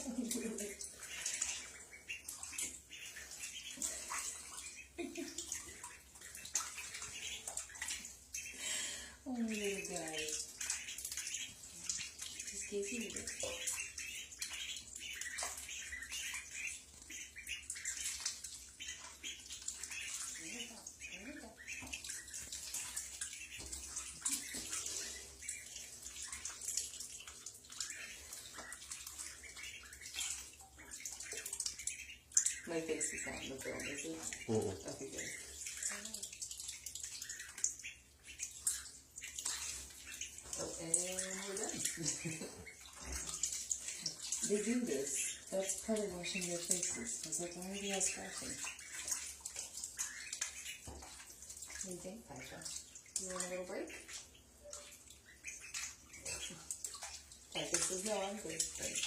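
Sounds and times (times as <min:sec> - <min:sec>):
ducklings splashing in water: 0:00.0 - 0:59.0.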